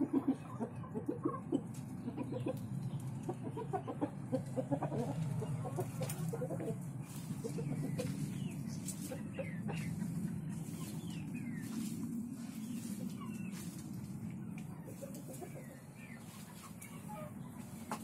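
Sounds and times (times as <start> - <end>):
hens clucking: 0.0 - 18.0
steady low rumble: 0.5 - 18.0.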